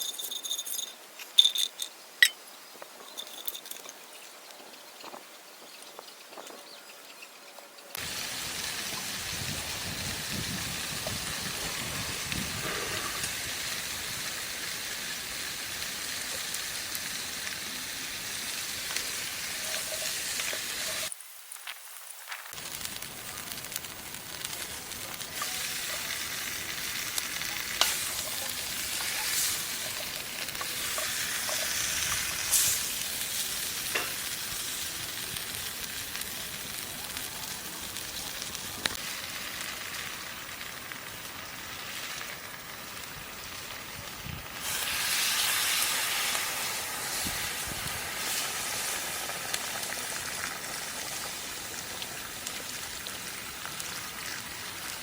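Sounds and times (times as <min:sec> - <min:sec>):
food sizzling in hot oil: 0:08.0 - 0:55.0.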